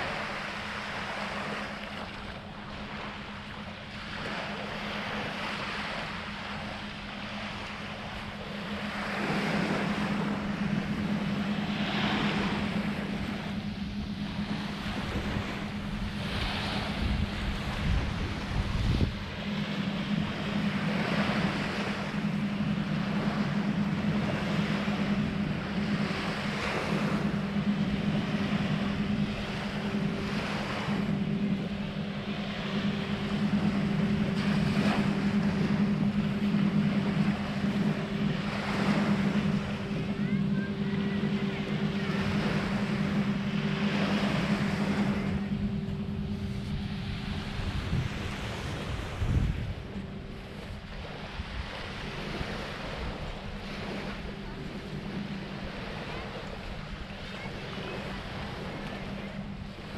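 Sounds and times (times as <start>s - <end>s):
higher engine hum: 0.0s - 59.9s
motorboat engine drone: 0.0s - 59.9s.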